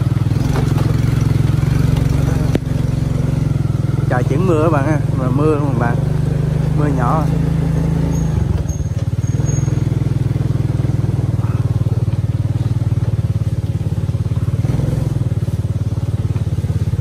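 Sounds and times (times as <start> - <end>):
small motorcycle engine running: 0.0 - 17.0.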